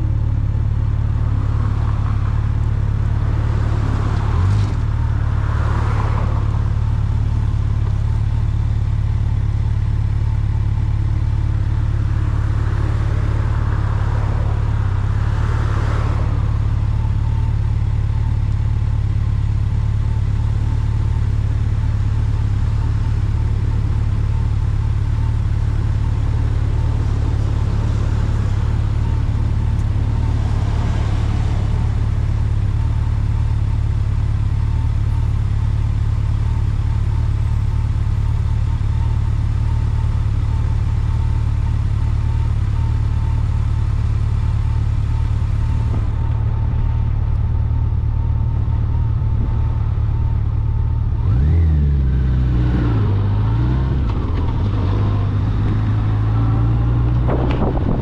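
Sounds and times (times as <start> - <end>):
vehicle engine and road drone: 0.0 - 58.0.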